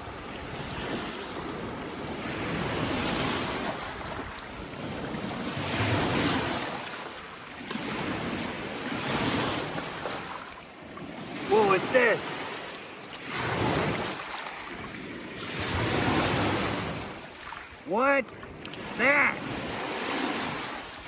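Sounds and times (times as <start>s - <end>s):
waves washing onto rocky beach: 0.0s - 21.0s
wind buffeting microphone: 0.0s - 21.0s.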